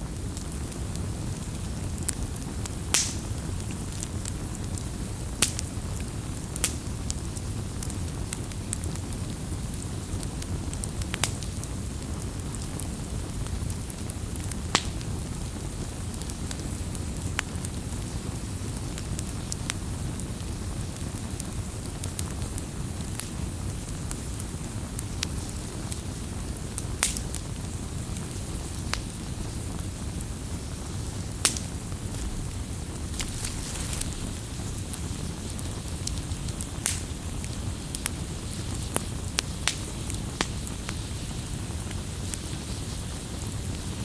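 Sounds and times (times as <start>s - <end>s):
fire rumbling: 0.0s - 44.0s
logs crackling and popping: 0.2s - 44.0s.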